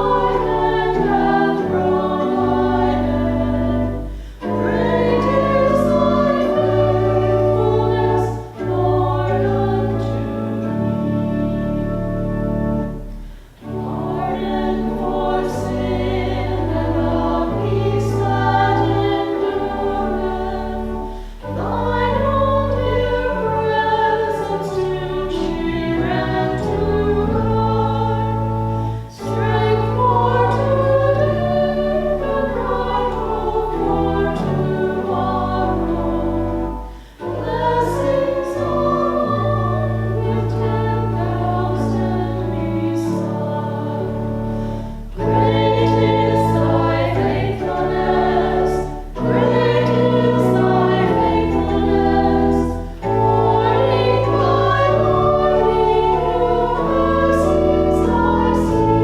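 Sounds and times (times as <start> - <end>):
instrumental accompaniment: 0.0 - 59.0
voices singing a hymn: 0.0 - 59.0.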